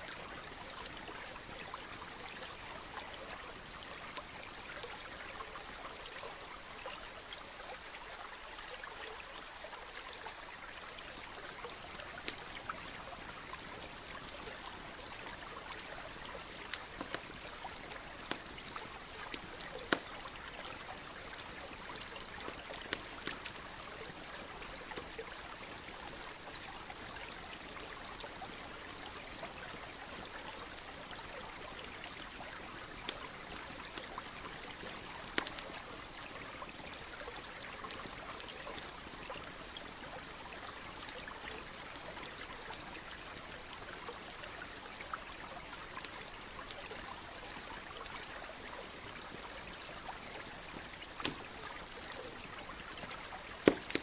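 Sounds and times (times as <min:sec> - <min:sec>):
campfire crackling and popping: 0:00.0 - 0:08.0, 0:10.5 - 0:54.0.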